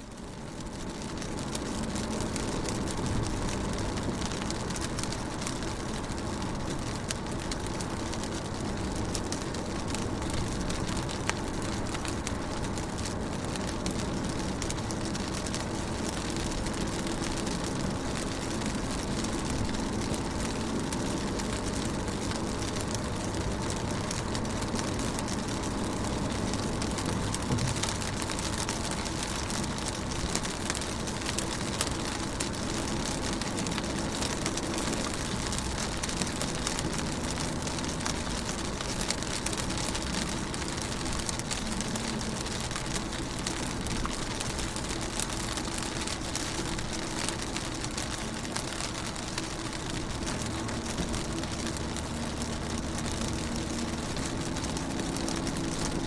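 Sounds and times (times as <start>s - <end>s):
rain on car windows: 0.0s - 56.0s.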